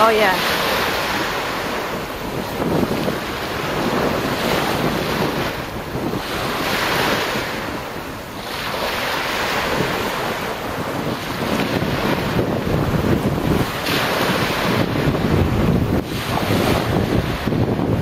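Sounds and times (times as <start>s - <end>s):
small waves washing on beach: 0.0s - 18.0s
wind buffeting microphone: 0.0s - 18.0s.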